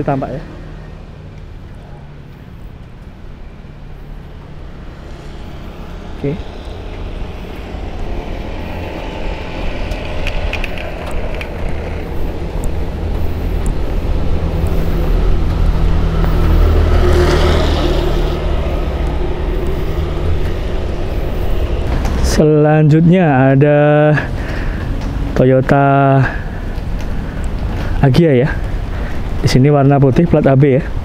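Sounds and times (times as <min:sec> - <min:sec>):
motor vehicle running: 0:00.0 - 0:31.0
vehicle passing: 0:00.0 - 0:31.0.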